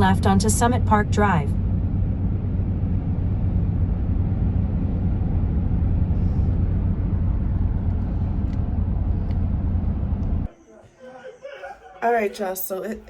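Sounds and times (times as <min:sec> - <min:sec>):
car cabin road rumble: 0:00.0 - 0:10.5.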